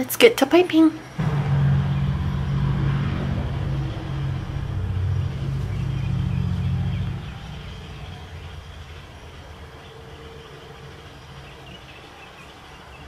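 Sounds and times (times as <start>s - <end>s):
low steady rumble: 1.2s - 11.8s.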